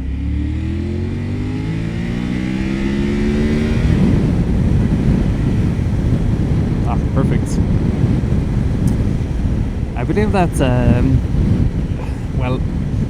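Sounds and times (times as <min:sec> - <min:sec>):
motorcycle engine accelerating: 0:00.0 - 0:13.0
wind rushing on microphone: 0:00.0 - 0:13.0.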